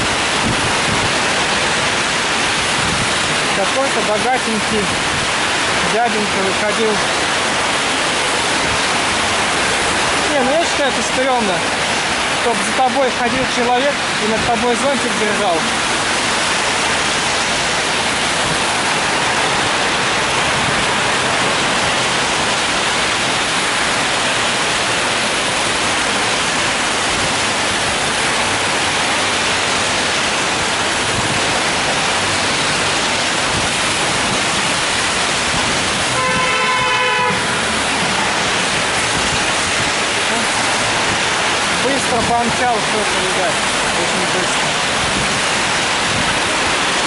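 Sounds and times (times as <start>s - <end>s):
rain on an umbrella: 0.0s - 47.0s
traffic hiss on wet road: 0.0s - 47.0s.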